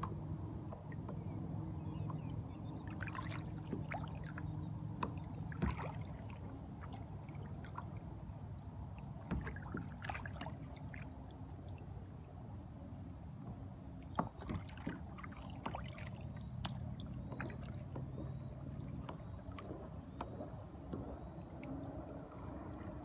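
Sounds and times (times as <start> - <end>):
little splashes: 0.0 - 12.4, 13.5 - 23.0
waves lapping against hull: 0.0 - 23.0.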